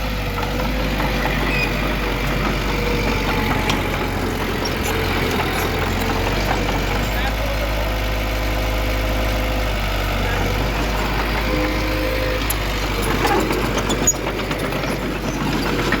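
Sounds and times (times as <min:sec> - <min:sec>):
heavy diesel machine running: 0:00.0 - 0:16.0.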